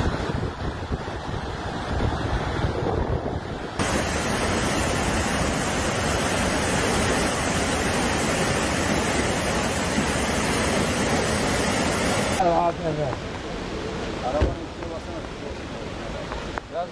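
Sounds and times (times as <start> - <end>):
river rushing over rapids: 0.0 - 16.9.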